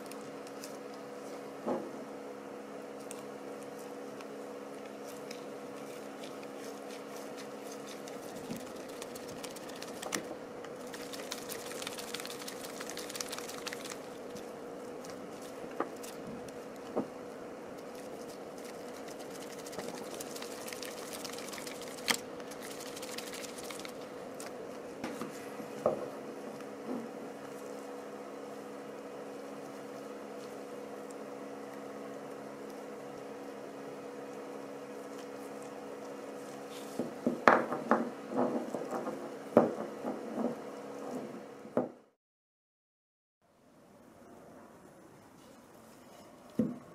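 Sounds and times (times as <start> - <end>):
steady hum: 0.0 - 41.8.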